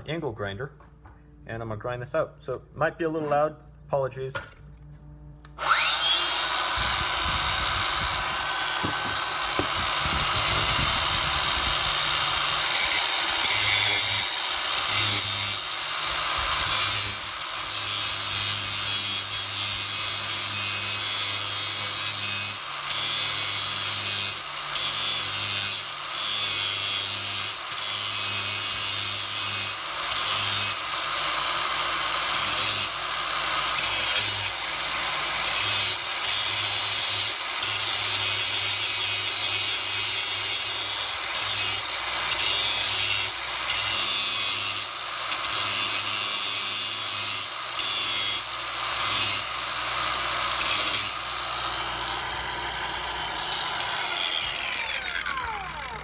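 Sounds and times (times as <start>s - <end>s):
angle grinder grinding metal: 5.4s - 56.0s.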